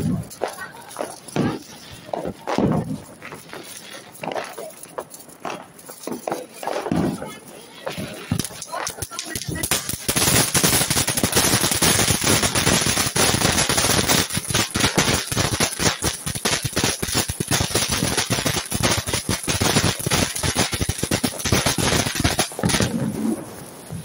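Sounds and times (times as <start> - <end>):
fast crackling pops: 0.0 - 23.5
firework fountain hissing: 0.0 - 24.0.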